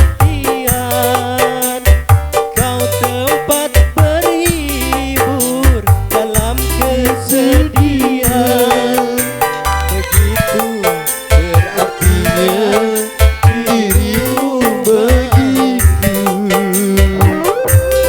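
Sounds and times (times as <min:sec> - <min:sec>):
drum beat with deep hits: 0:00.0 - 0:18.0
sliding keyboard melody: 0:00.0 - 0:18.0.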